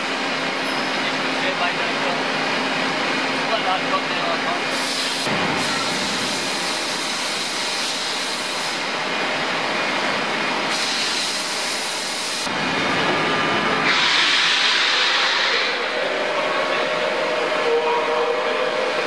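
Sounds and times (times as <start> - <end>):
machine tool hiss and whir: 0.0 - 9.2, 10.6 - 19.0.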